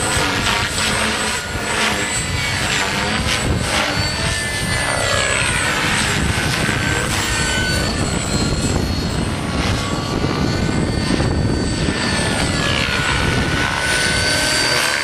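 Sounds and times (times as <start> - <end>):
model helicopter whine: 0.0 - 15.0.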